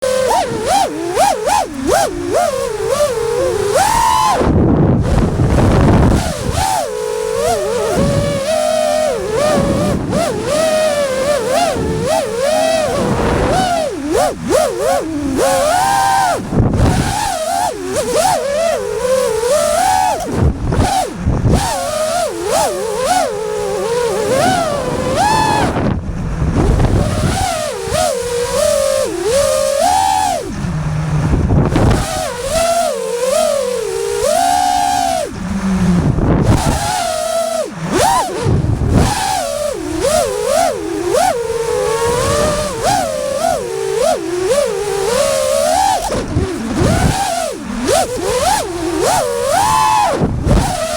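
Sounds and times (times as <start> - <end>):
drone motors whining: 0.0 - 50.9
wind rushing past microphone: 0.0 - 50.9.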